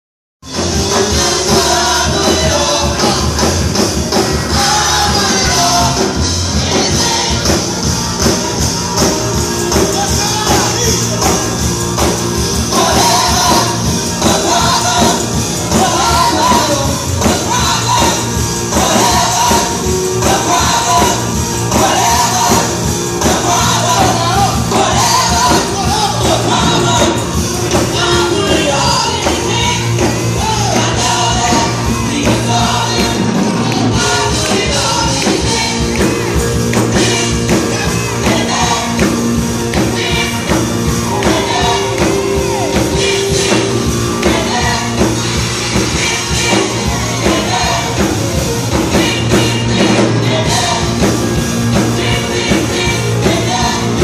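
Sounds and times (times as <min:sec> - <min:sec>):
gospel choir singing: 0:00.4 - 0:54.0
live band with guitar and keyboard: 0:00.4 - 0:54.0.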